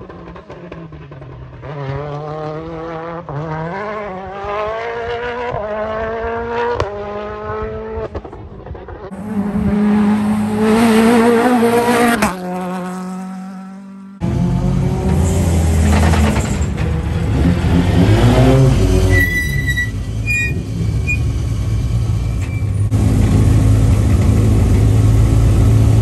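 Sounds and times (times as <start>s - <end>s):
rally car engines accelerating: 0.0s - 26.0s.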